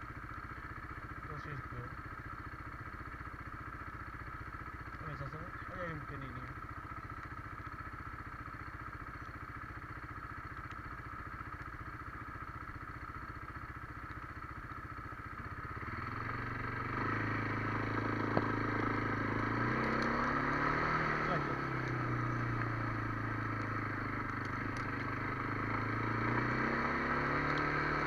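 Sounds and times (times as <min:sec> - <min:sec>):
engine idling and revving: 0:00.0 - 0:28.0.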